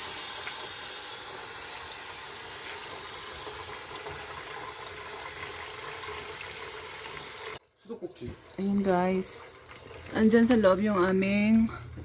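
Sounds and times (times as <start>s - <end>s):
water running through dispenser: 0.0s - 12.0s.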